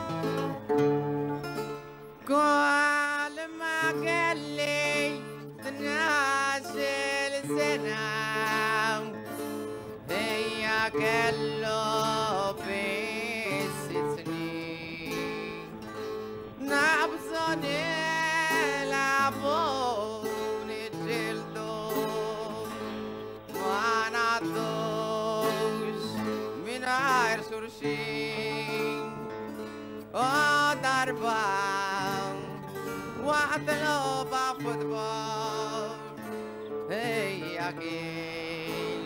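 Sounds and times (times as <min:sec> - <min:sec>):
acoustic guitar: 0:00.0 - 0:39.0
person folk singing: 0:00.0 - 0:39.0.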